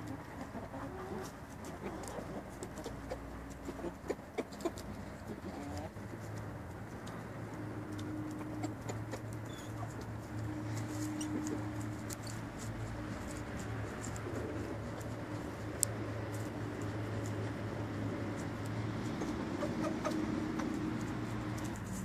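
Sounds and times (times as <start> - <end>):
chickens clucking low: 0.0 - 6.3, 7.0 - 12.0, 13.8 - 21.7
drawn-out low chicken calls: 0.0 - 6.4, 7.0 - 21.8.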